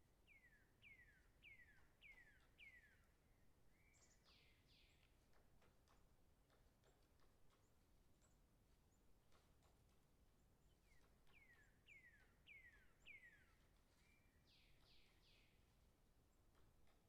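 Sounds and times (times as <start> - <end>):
distant bird song: 0.1 - 17.0.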